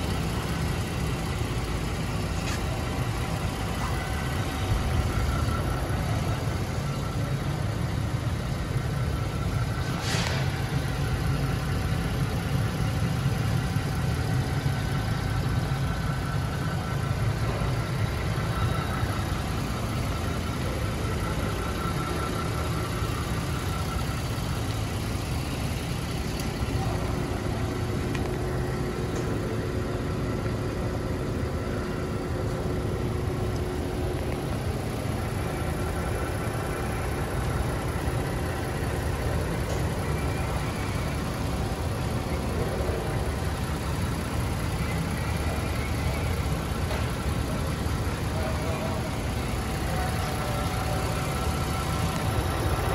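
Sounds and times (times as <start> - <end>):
engine droning: 0.0 - 52.9.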